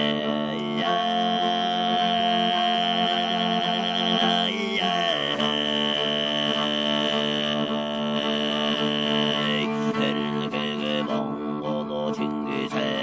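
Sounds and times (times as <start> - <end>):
high sung overtone: 0.0 - 13.0
throat singing drone: 0.0 - 13.0.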